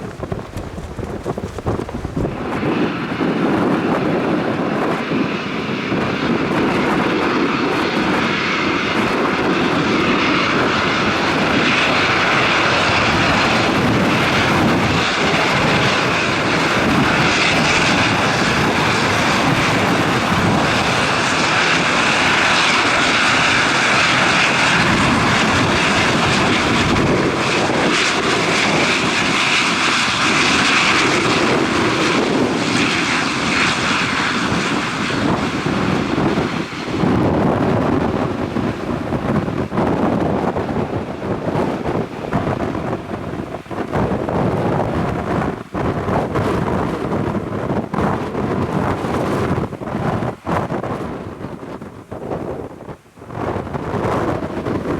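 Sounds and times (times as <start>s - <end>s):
airliner engines whining: 0.0s - 54.9s
wind hitting microphone: 0.0s - 54.9s.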